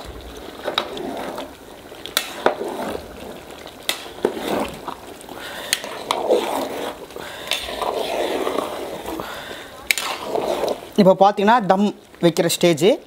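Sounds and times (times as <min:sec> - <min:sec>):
ladle swishing through rice: 0:00.0 - 0:11.0.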